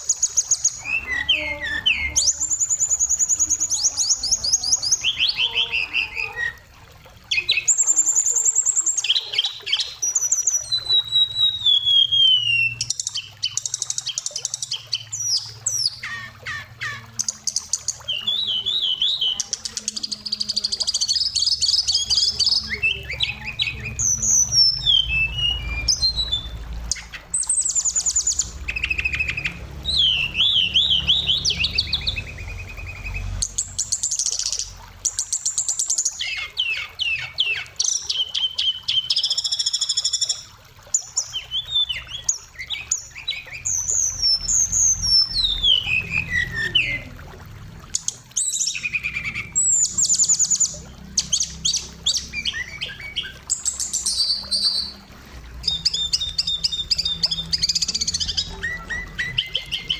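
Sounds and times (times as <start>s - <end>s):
songbird singing: 0.0s - 47.2s, 47.8s - 59.9s.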